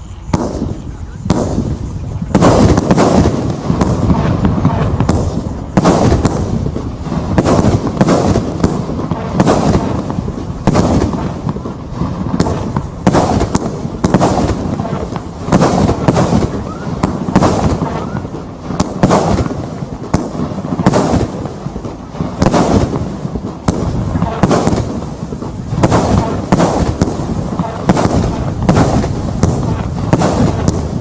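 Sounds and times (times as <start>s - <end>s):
fireworks launching and bursting: 0.0s - 31.0s.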